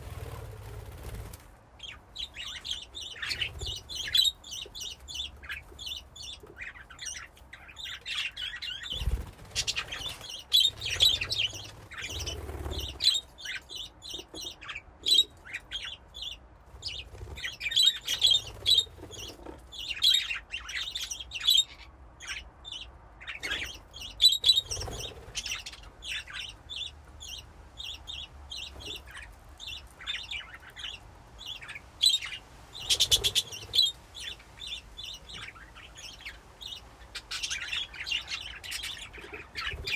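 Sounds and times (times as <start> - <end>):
budgies chirping and chattering: 0.0 - 39.9.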